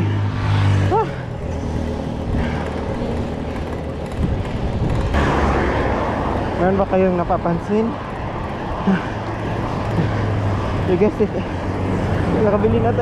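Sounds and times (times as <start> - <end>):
wind and road noise rumble: 0.0 - 13.0.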